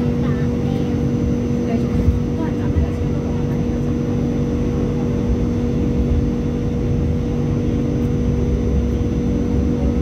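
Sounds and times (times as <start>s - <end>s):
train car rumbling along track: 0.0s - 10.0s.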